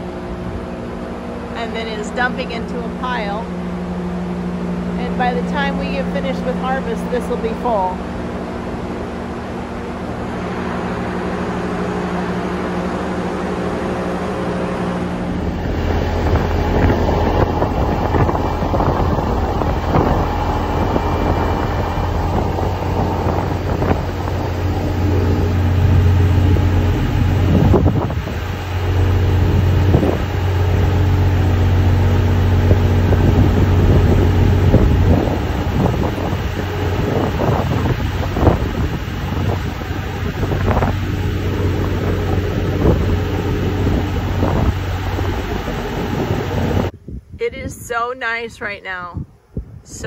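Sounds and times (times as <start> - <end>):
diesel truck engine humming: 0.0 - 46.9
machine hum: 0.0 - 48.0.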